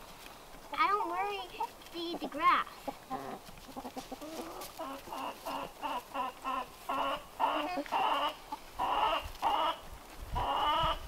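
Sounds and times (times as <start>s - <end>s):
hens clucking: 0.7s - 11.0s.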